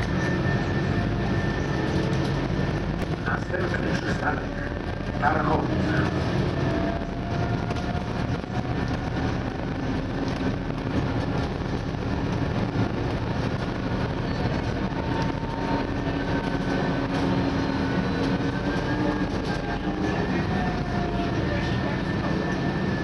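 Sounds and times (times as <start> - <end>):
bus engine drone: 0.0 - 23.0
road and tyre noise: 0.0 - 23.0.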